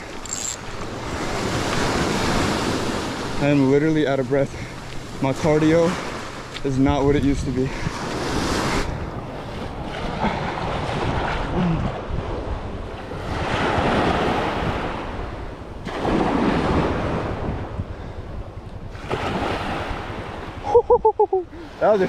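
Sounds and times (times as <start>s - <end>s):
wind buffeting microphone: 0.0s - 21.7s
ocean surf breaking: 0.0s - 22.0s.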